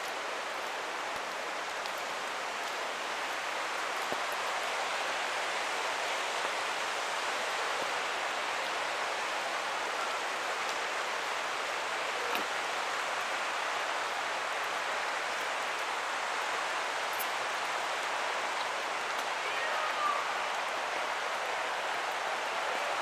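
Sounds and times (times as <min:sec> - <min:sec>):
forest creek rushing: 0:00.0 - 0:23.0.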